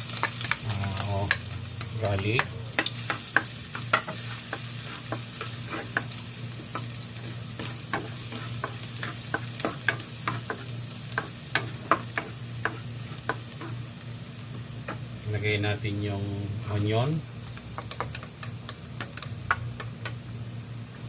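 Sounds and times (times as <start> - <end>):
garlic sizzling in a pan: 0.0 - 21.0.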